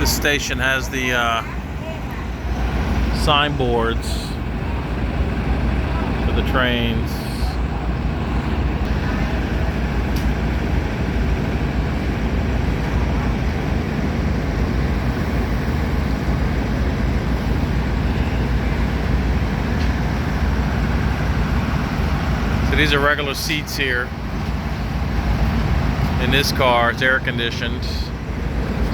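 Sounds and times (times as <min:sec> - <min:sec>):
diesel train rumbling: 0:00.0 - 0:28.9.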